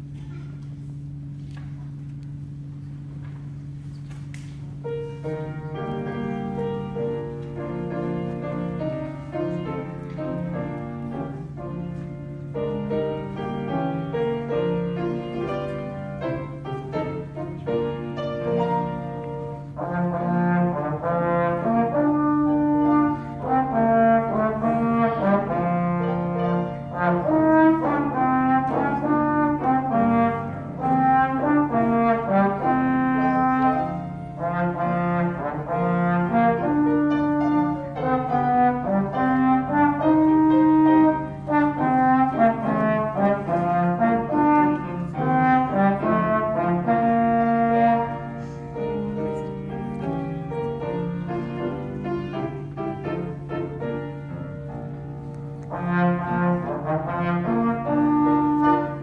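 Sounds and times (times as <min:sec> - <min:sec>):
piano accompaniment: 0:00.0 - 0:59.0
trombone melody: 0:04.9 - 0:55.0, 0:55.6 - 0:59.0.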